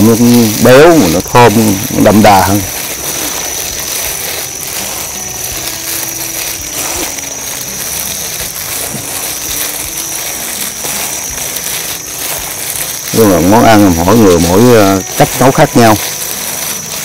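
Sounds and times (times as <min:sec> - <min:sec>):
rice being mixed with scraping: 0:00.0 - 0:17.0.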